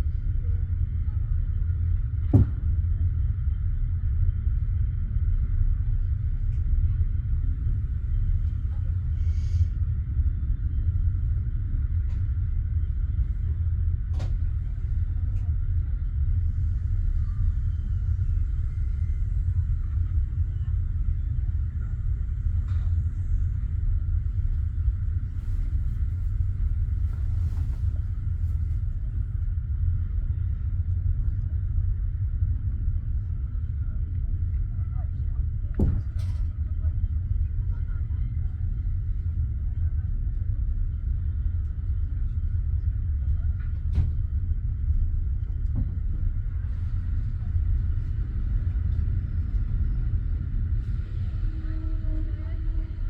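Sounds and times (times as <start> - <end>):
train carriage low rumble: 0.0 - 53.0.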